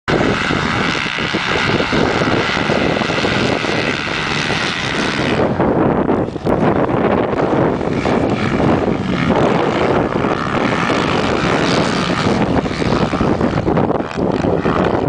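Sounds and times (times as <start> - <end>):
motocross bikes revving: 0.1 - 15.0.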